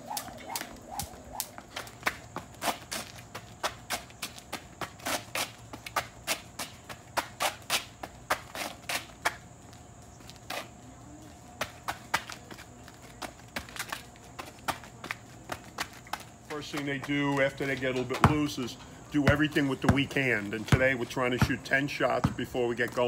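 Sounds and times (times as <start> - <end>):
sneakers on asphalt: 0.0 - 23.0.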